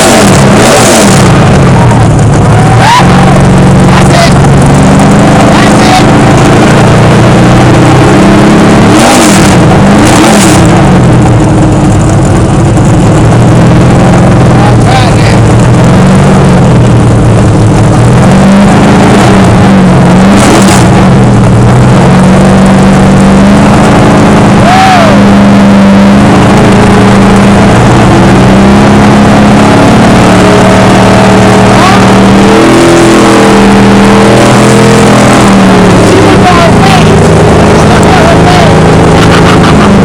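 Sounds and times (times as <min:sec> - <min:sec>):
race car engine revving: 0:00.0 - 0:40.0.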